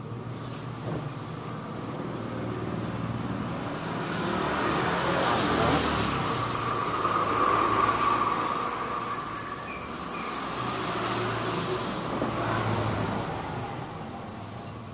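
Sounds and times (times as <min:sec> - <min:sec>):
road vehicle passing: 0:01.1 - 0:14.9.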